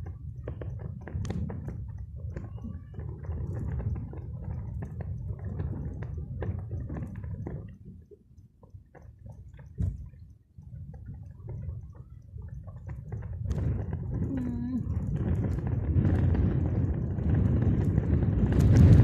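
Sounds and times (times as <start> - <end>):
water splashing and sloshing: 0.0 - 19.0
wind rumble on microphone: 0.0 - 19.0.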